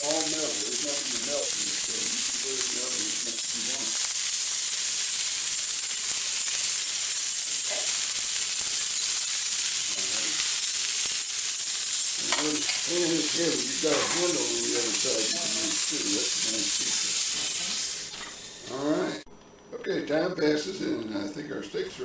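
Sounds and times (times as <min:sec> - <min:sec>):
steaks sizzling in frying pan: 0:00.0 - 0:19.2.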